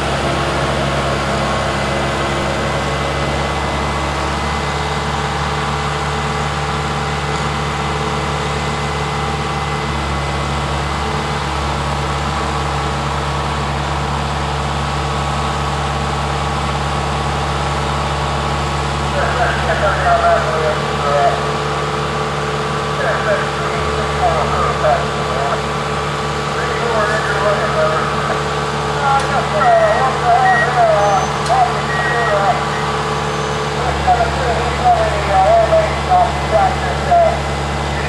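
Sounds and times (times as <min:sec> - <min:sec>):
engine humming steadily: 0:00.0 - 0:38.0.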